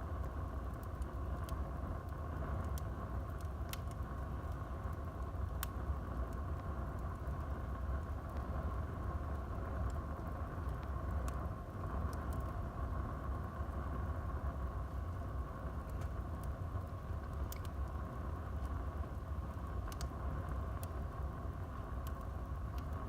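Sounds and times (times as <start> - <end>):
fire crackling and popping: 0.0 - 23.0
fire flames rumbling: 0.0 - 23.0.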